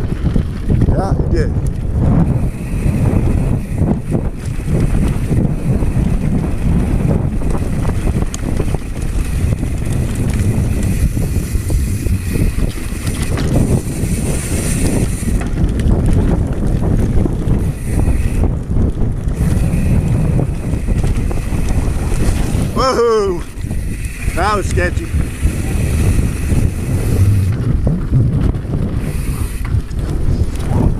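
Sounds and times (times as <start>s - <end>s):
bike knocking and rattling: 0.0s - 30.9s
bike tyres rumbling on dirt: 0.0s - 30.9s
wind buffeting microphone: 0.0s - 30.9s.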